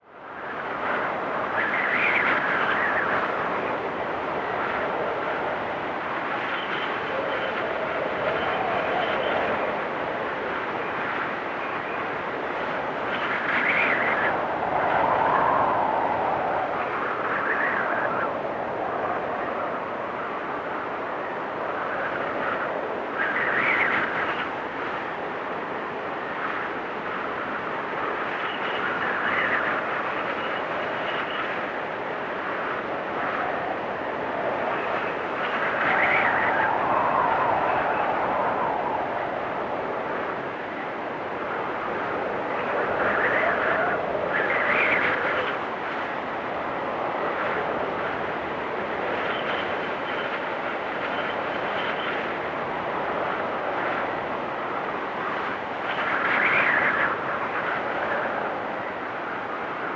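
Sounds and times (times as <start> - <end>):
blizzard wind gusting: 0.0 - 59.9.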